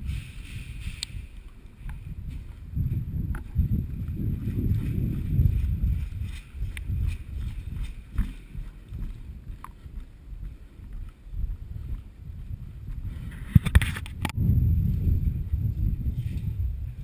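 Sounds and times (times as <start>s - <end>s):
microphone handling noise: 0.0s - 17.0s
rumbling wind: 0.0s - 17.0s.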